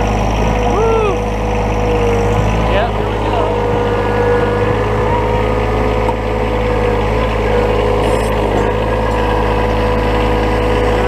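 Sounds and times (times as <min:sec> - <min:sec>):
diesel tractor engine running: 0:00.0 - 0:11.0
steady whine: 0:00.0 - 0:11.0.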